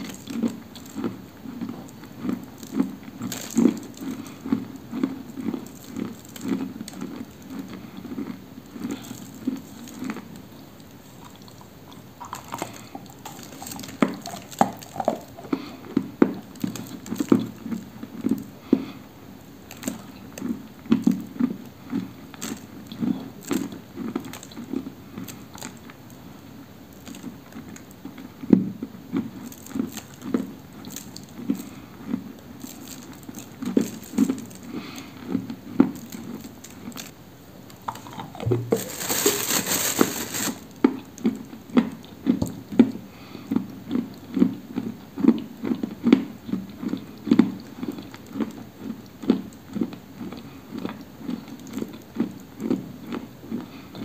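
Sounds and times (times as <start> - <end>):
clay being chewed with dry crunches: 0.0 - 54.0.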